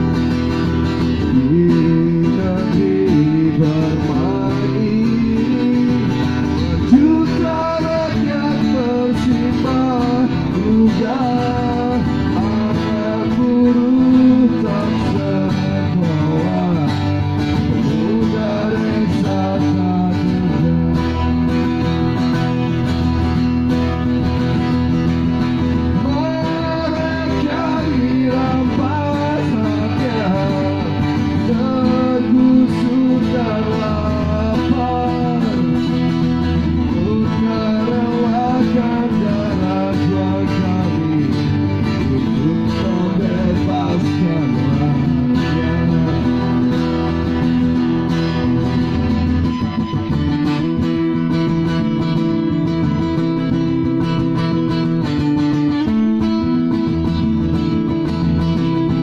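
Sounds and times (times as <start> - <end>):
man singing: 0.0 - 22.3, 24.7 - 59.0
acoustic guitars playing: 0.0 - 59.0.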